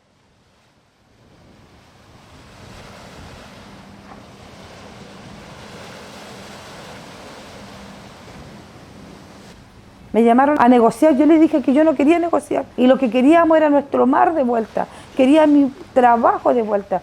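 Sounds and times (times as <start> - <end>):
ocean surf washing in: 0.0 - 17.0
wind: 0.0 - 17.0.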